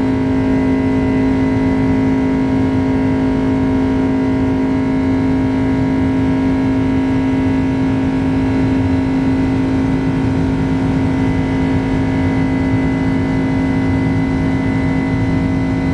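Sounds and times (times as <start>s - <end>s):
jet engine cabin drone: 0.0s - 15.9s.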